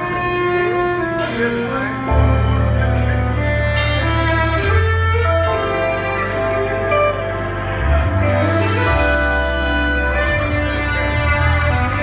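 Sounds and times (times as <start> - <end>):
deep bass notes: 0.0 - 12.0
electric guitar: 0.0 - 12.0
keyboards: 0.0 - 12.0.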